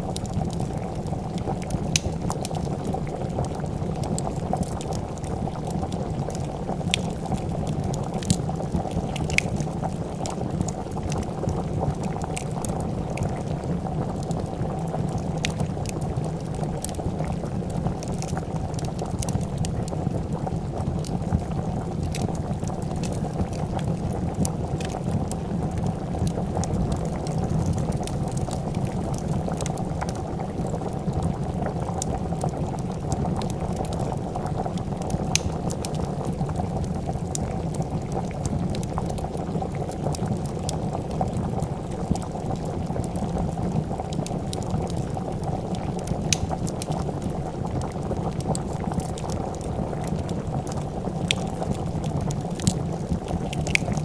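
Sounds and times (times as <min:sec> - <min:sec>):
soup bubbling at a boil: 0:00.0 - 0:54.0
wood fire crackling and popping: 0:00.0 - 0:54.0.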